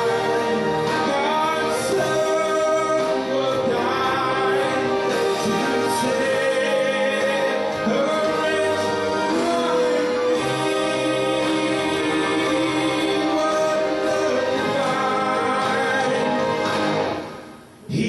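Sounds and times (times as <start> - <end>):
gospel singing: 0.0 - 17.3
instrumental accompaniment: 0.0 - 17.8.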